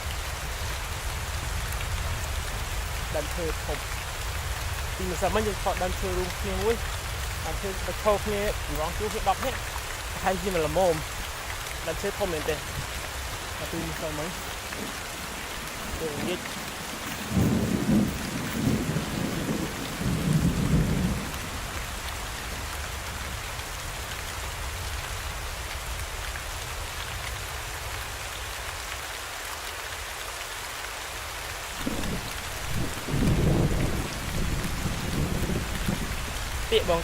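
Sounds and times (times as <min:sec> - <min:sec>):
rain-like rushing hiss: 0:00.0 - 0:37.0.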